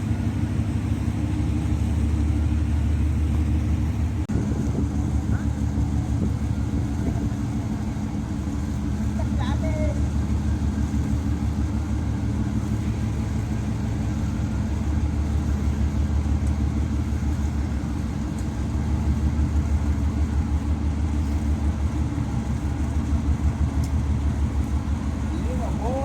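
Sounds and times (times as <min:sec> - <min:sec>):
large engine throbbing: 0:00.0 - 0:26.0.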